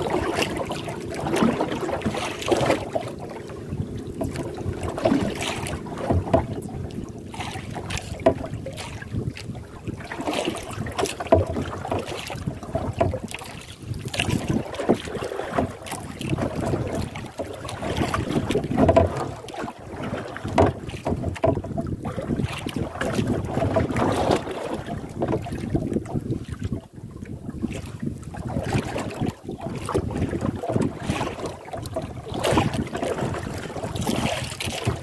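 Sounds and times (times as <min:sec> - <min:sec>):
water splashing against hull: 0:00.0 - 0:35.0
wind noise on microphone: 0:00.0 - 0:35.0.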